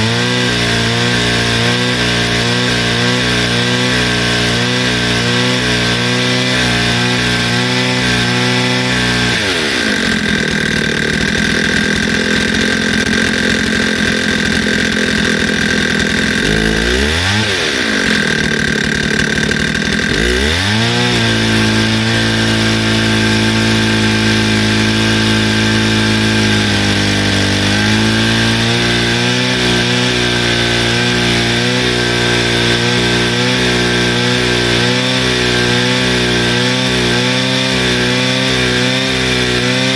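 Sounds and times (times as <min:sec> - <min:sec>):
brushcutter engine revving: 0:00.0 - 0:39.9.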